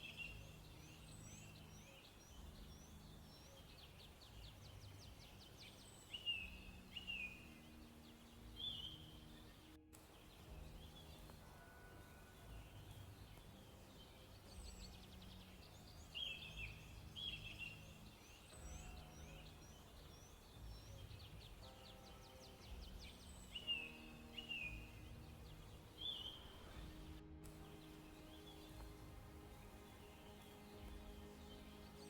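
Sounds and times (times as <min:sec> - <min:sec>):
soft low background noise: 0:00.0 - 0:32.0
songbird chirps and whistles: 0:00.0 - 0:32.0.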